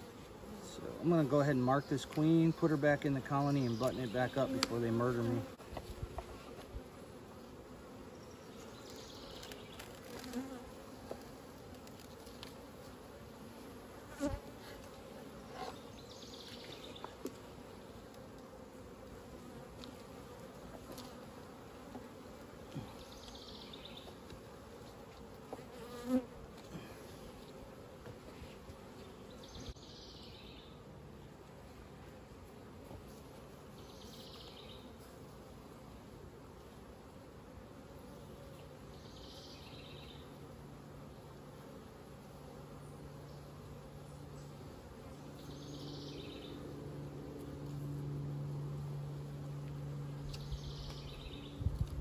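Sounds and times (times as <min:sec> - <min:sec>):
honey bees buzzing: 0:00.0 - 0:52.0.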